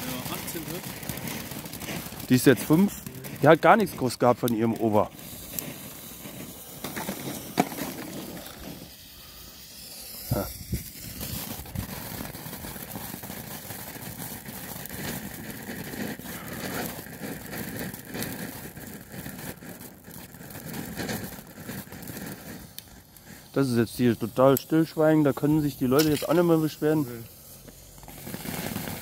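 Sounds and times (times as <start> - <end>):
sharp firework pops: 0.0 - 9.0, 9.6 - 29.0
fireworks hissing and crackling: 0.0 - 29.0.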